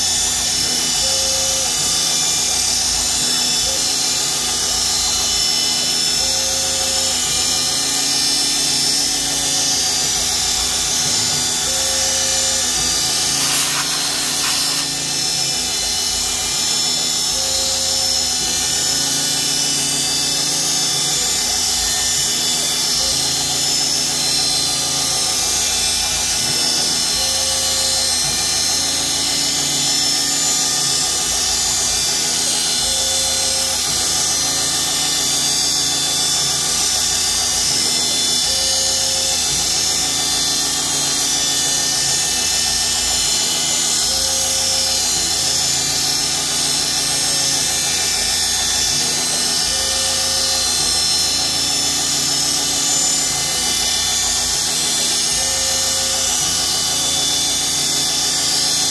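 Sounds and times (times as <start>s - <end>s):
axis motors driving: 0.0s - 58.9s
mill spindle whining: 0.0s - 58.9s.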